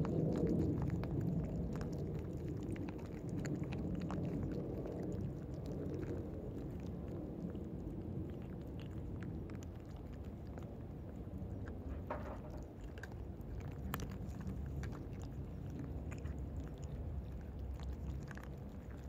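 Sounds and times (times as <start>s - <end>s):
cats crunching dry food: 0.0s - 19.0s.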